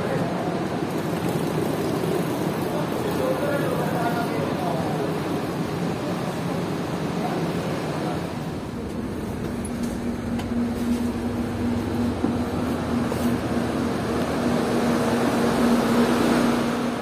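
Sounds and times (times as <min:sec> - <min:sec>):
busy airport terminal noise: 0:00.0 - 0:17.0
low machine hum: 0:00.0 - 0:17.0.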